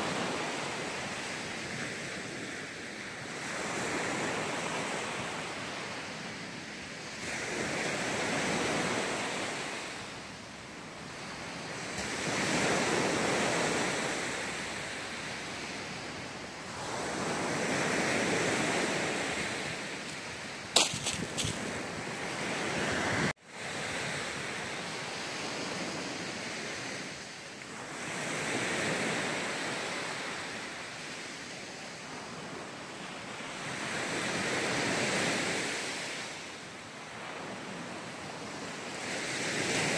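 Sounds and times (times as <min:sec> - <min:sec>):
sea surf breaking on beach: 0:00.0 - 0:39.9.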